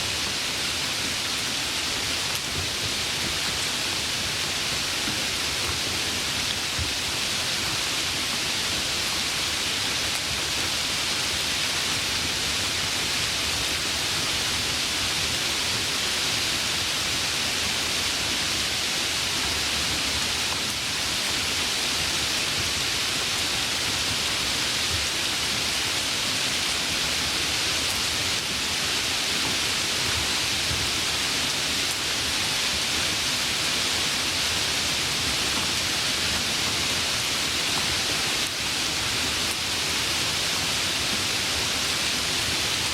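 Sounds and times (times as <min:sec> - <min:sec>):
heavy rain downpour: 0:00.0 - 0:42.9.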